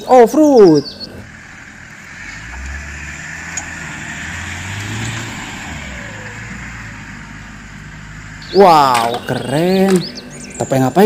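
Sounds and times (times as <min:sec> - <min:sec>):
engine working under load: 0:00.0 - 0:11.0
tyres churning loose dirt: 0:00.0 - 0:11.0.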